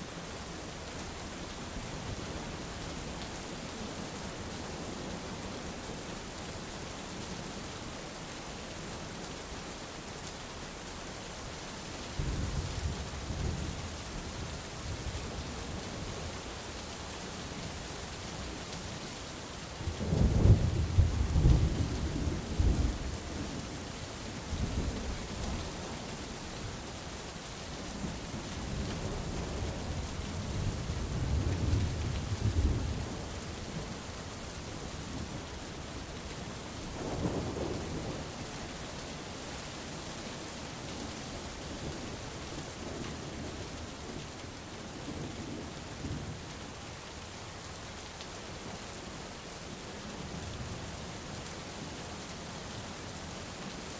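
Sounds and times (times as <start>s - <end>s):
rain on forest canopy: 0.0s - 53.9s.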